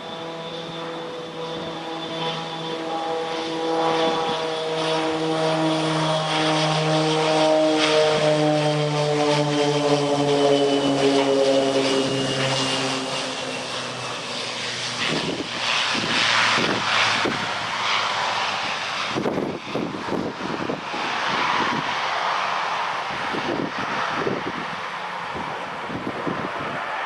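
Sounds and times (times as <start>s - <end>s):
turboprop plane passing: 0.0s - 27.0s.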